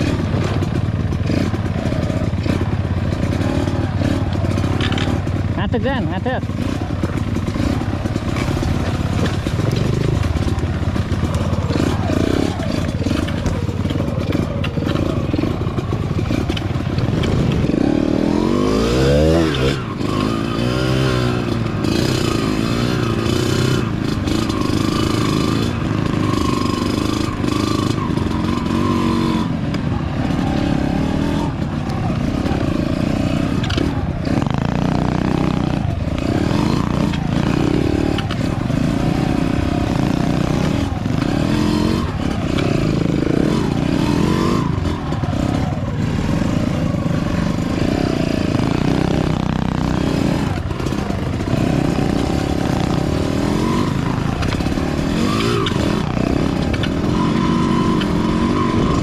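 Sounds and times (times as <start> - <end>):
dirt bike engine revving: 0.0 - 59.0
dirt bike engines running: 0.0 - 59.0.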